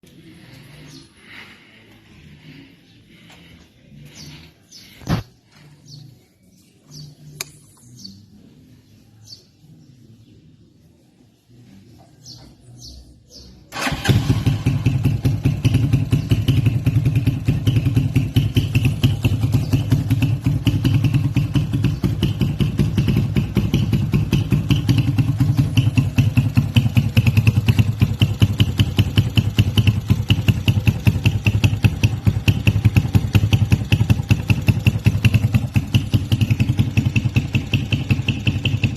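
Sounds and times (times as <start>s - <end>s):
motorcycle engine starting and running: 0.0s - 6.0s, 13.7s - 38.9s.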